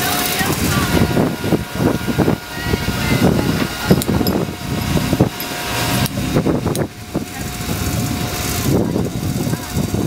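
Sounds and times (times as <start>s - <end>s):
mechanical hum and rumble: 0.0s - 10.0s.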